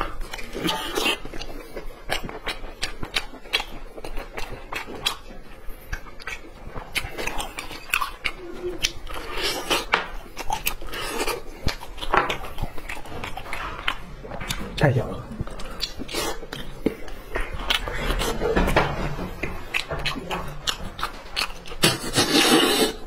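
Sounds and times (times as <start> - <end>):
wet smacking and chewing: 0.0 - 23.0.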